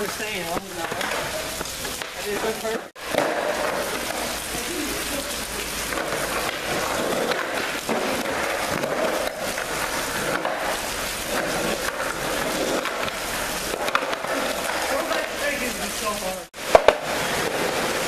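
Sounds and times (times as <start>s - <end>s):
skateboard clacks: 0.0s - 15.7s, 16.5s - 18.0s
skateboard wheels rolling on concrete: 0.0s - 18.0s.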